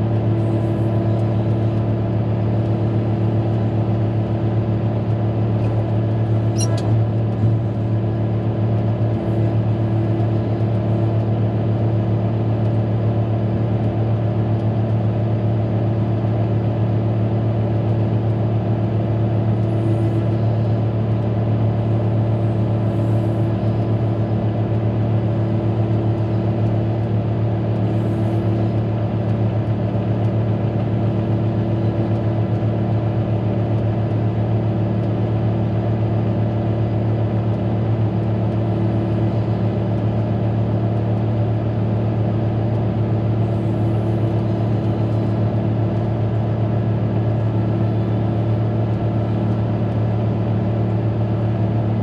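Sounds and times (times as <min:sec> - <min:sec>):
diesel engine low drone: 0:00.0 - 0:52.0.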